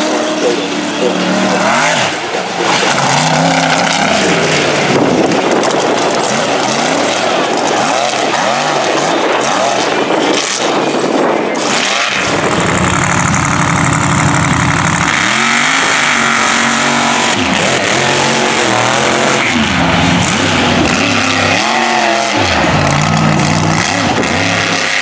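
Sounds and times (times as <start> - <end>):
truck engines revving: 0.0 - 25.0.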